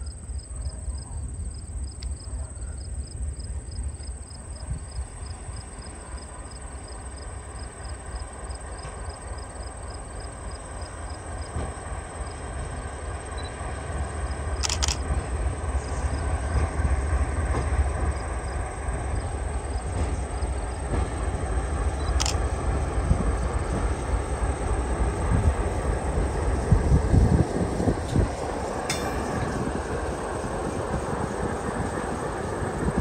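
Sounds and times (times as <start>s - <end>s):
diesel locomotive engines rumbling: 0.0s - 33.0s.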